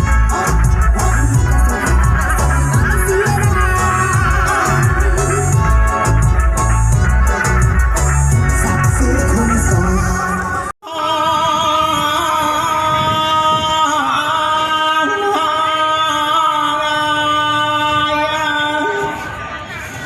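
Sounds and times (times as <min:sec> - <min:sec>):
musical accompaniment: 0:00.0 - 0:20.0.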